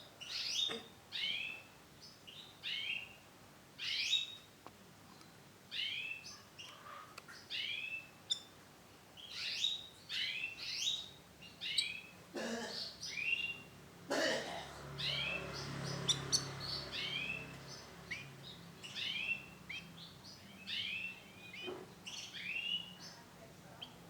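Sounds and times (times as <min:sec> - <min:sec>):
canary chirping: 0:00.2 - 0:03.2, 0:05.7 - 0:08.6, 0:09.2 - 0:13.8, 0:14.8 - 0:24.0.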